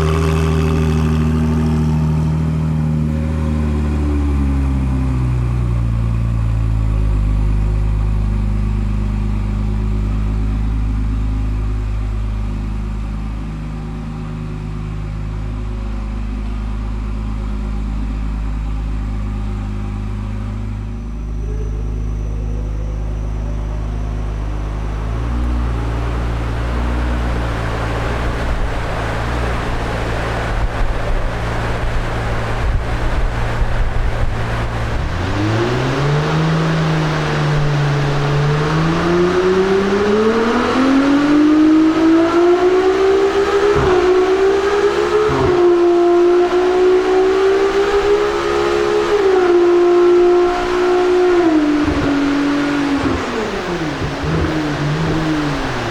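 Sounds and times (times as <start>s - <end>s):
exhaust crackles: 0.0s - 55.9s
sports car engine idling: 0.0s - 55.9s.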